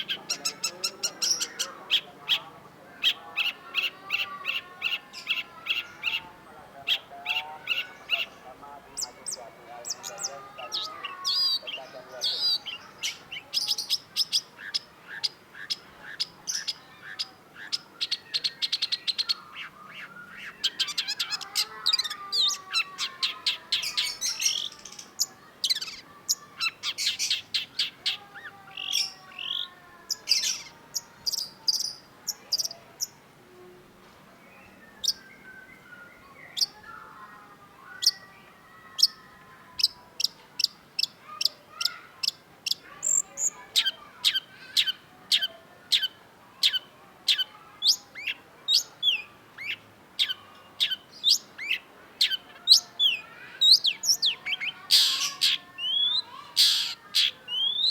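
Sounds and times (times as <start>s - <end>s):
bird singing chattering trills: 0.0s - 33.2s, 34.5s - 57.9s.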